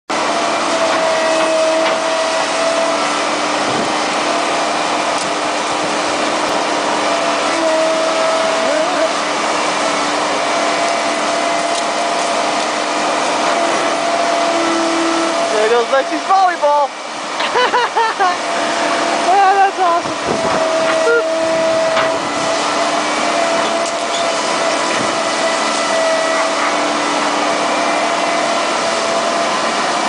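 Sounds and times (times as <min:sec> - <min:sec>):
brush cutter running: 0:00.1 - 0:30.0
machine whine: 0:00.1 - 0:30.0.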